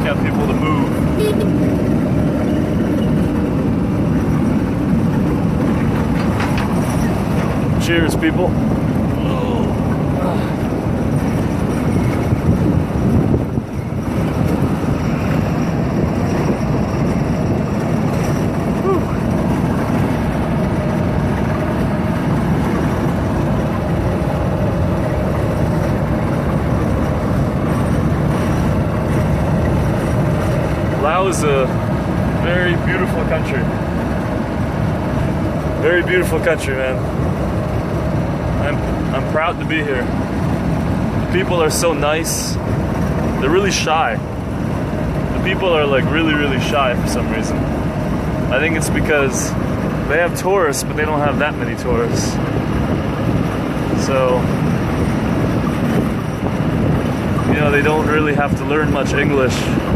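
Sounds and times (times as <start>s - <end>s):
car driving on rough road: 0.0s - 59.9s.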